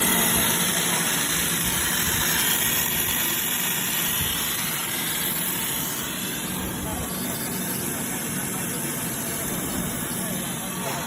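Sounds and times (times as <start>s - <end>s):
production line machine hissing: 0.0s - 11.0s.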